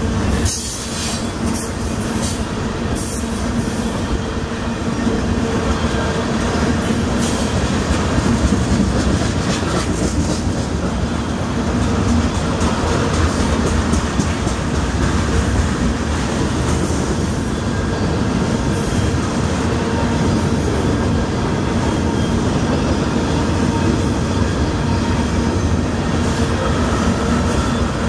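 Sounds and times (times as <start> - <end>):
train rumbling past on rails: 0.0 - 28.0.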